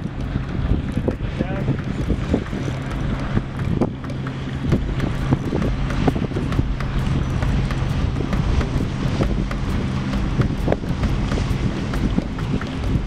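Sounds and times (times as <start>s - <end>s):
steady low hum: 0.0s - 13.0s
wind buffeting microphone: 0.0s - 13.0s.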